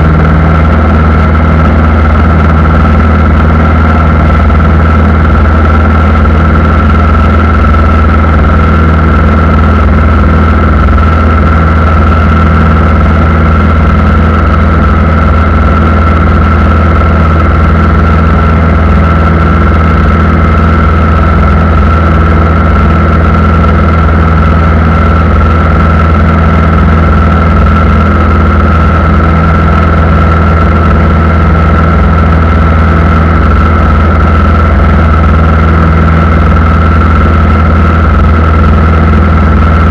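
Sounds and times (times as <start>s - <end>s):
aircraft engines droning: 0.0s - 39.9s
high engine whine: 0.0s - 39.9s.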